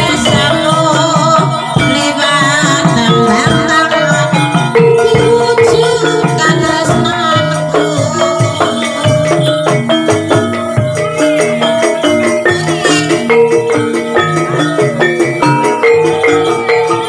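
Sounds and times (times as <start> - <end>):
drums: 0.0 - 17.0.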